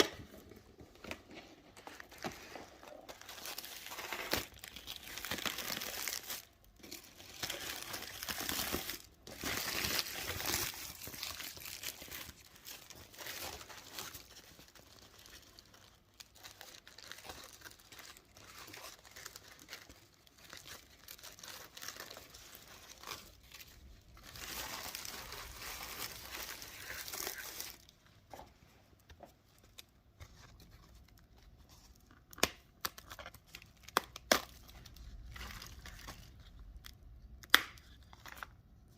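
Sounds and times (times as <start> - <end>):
wrapper crinkling and tearing: 2.0 - 28.0, 29.8 - 38.6.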